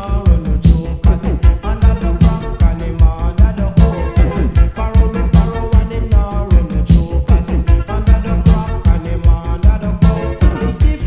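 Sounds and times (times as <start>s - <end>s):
dancehall track with heavy bass: 0.0s - 11.0s.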